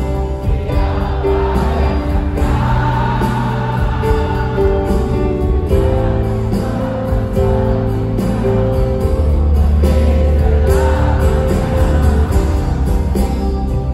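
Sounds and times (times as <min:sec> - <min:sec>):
acoustic guitar: 0:00.0 - 0:13.9
crowd singing along: 0:00.0 - 0:13.9
live band music: 0:00.0 - 0:13.9.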